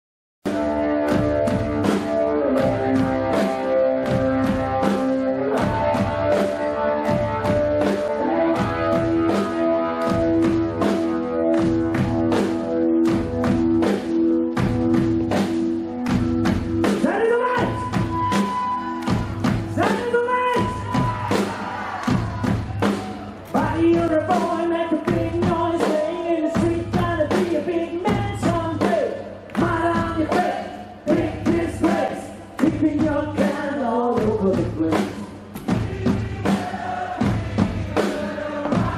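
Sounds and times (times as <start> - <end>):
blues-rock band playing: 0.4 - 32.0
drum kit beat: 0.4 - 38.9.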